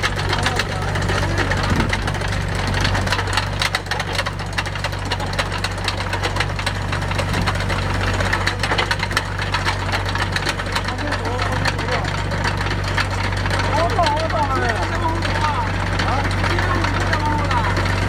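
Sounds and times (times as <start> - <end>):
engine hum: 0.0 - 18.0
trencher chain cracking and clicking: 0.0 - 18.0.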